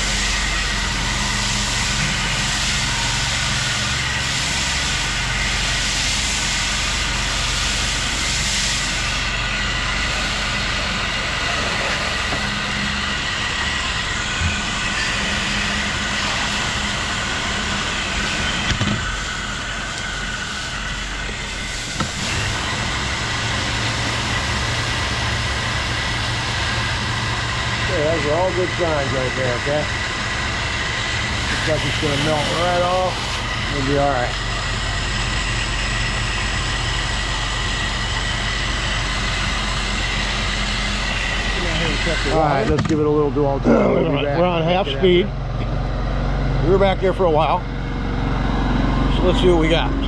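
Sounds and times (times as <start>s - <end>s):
spray hissing against a wall: 0.0s - 42.6s
pressure washer engine hum: 0.0s - 50.0s.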